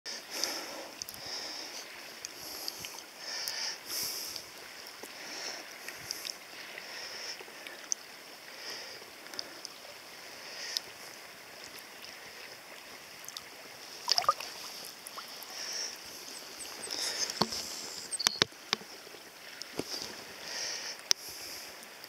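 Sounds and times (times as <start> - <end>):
river water gurgling and lapping: 0.1 - 22.0
small sharp water splashes: 0.4 - 21.9.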